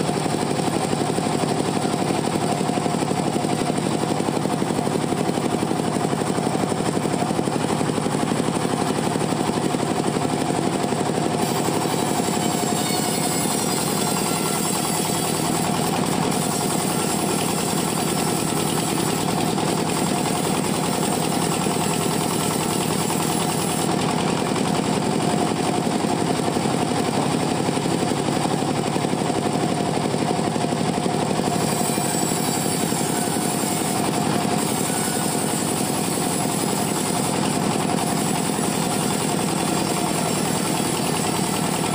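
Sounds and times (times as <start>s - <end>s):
band saw cutting wood: 0.0s - 28.6s, 31.1s - 41.9s.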